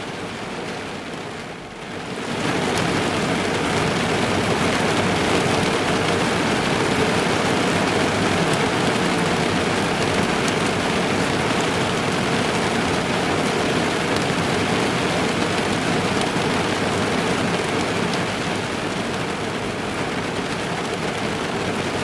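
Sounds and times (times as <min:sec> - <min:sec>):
heavy rain on a car roof: 0:00.0 - 0:22.0.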